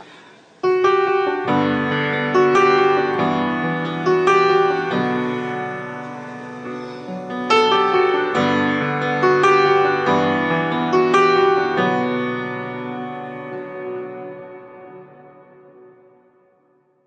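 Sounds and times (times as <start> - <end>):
piano notes and chords: 0.0 - 16.8.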